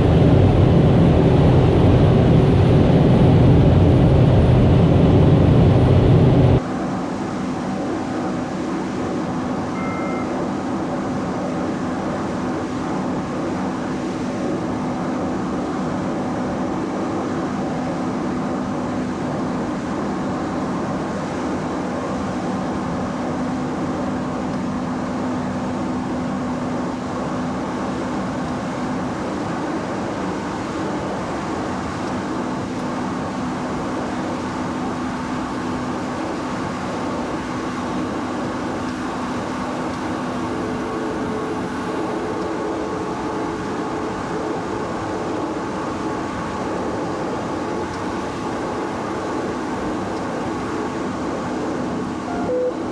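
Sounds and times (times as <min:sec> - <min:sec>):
turboprop aircraft in flight: 0:00.0 - 0:52.9.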